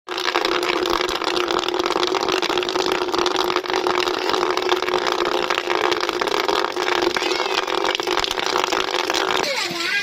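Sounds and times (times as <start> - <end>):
water splashing into bucket: 0.1 - 10.0.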